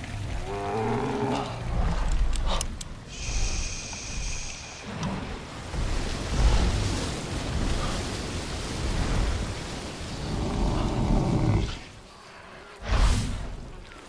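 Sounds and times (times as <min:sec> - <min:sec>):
deep rumble: 0:00.0 - 0:11.7
water streaming off a body: 0:00.0 - 0:14.0.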